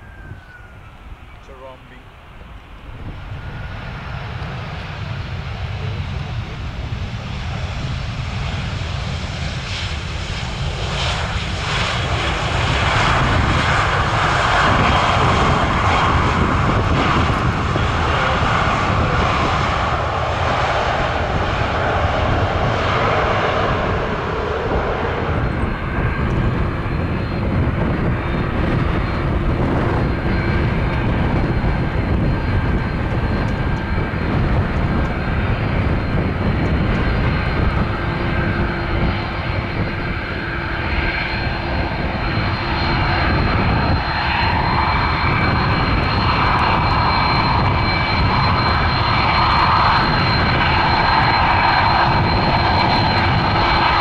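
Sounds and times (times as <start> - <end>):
airliner jet engines rolling past: 0.0 - 54.0
steady dull jet engine noise: 0.0 - 54.0.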